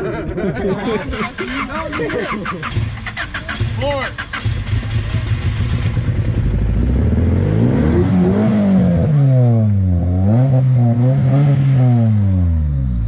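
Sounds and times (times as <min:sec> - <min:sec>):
car engine revving: 0:01.0 - 0:13.0.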